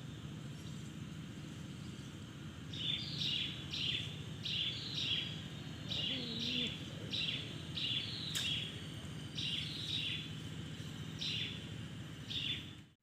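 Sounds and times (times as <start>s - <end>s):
bird calling: 0.0s - 12.8s
low outdoor rumble: 0.0s - 13.0s.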